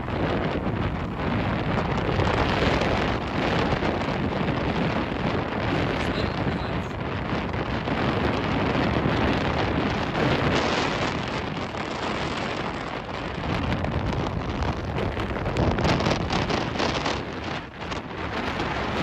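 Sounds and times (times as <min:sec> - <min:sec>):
boat hull rushing through water: 0:00.0 - 0:19.0
wind buffeting microphone: 0:00.0 - 0:19.0.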